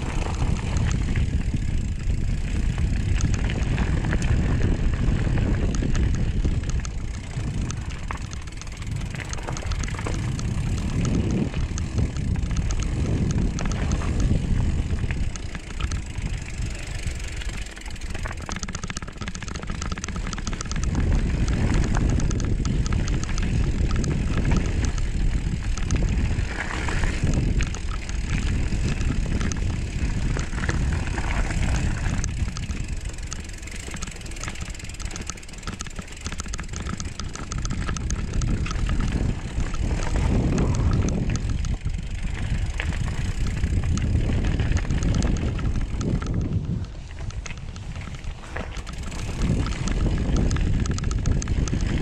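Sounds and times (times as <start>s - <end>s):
bike tyres rumbling on dirt: 0.0s - 52.0s
small rattling clicks: 0.0s - 52.0s
wind buffeting microphone: 0.0s - 52.0s.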